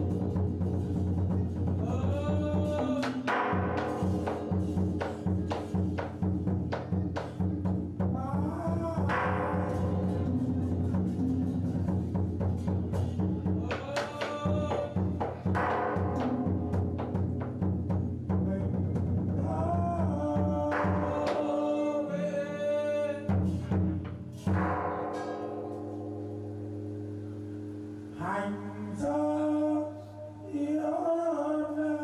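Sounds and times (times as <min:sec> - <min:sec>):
person singing: 0:00.0 - 0:17.7, 0:18.3 - 0:24.2, 0:28.2 - 0:32.0
drum beats: 0:00.0 - 0:29.0
sustained instrument tones: 0:00.0 - 0:31.0.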